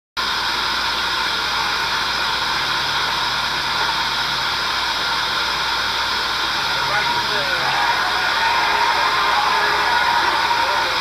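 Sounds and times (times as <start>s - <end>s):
film soundtrack hiss: 0.2s - 11.0s.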